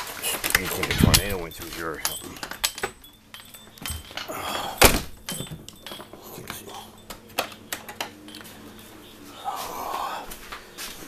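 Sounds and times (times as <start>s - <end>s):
handling knocks and clicks: 0.0s - 9.1s.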